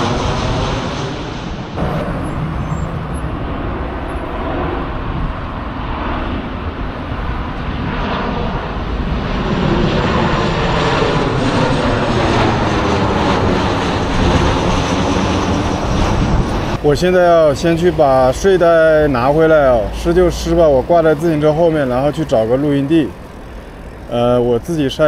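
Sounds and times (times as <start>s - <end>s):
jet airliner flying overhead: 0.0s - 25.0s.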